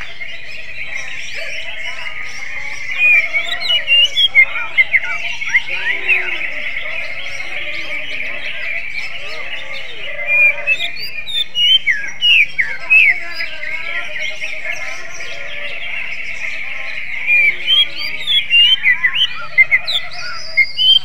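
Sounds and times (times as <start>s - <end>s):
bird singing chirps and whistles: 0.0s - 21.0s.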